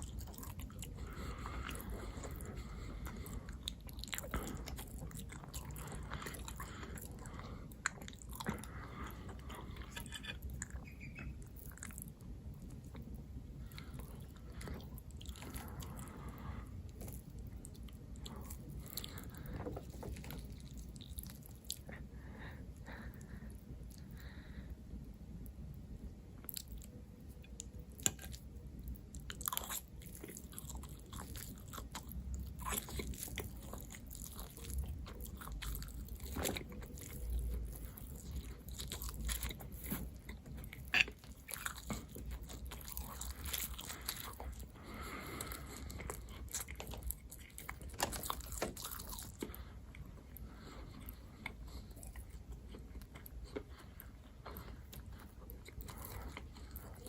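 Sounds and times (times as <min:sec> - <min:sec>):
food crunching: 0:00.0 - 0:22.0, 0:26.4 - 0:57.0
person chewing and biting food: 0:00.0 - 0:22.0, 0:26.4 - 0:57.0.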